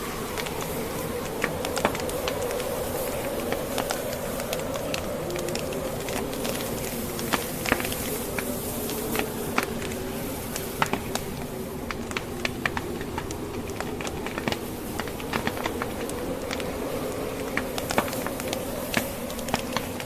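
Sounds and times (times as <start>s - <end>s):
burning logs popping: 0.0s - 20.0s
howling blizzard wind: 0.0s - 20.0s
wood fire crackling: 0.0s - 20.0s.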